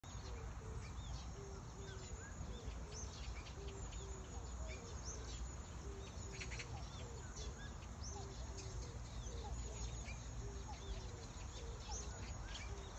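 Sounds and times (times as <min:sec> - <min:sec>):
cuckoo calling: 0:00.0 - 0:12.9
small birds chirping: 0:00.0 - 0:12.9.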